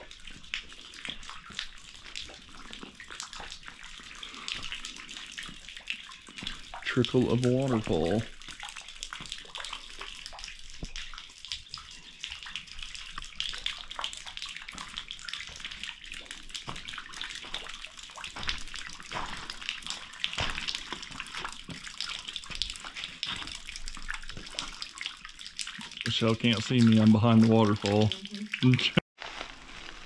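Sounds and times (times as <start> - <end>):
water drops splashing: 0.0 - 29.0
small waterfall trickling: 0.0 - 30.0.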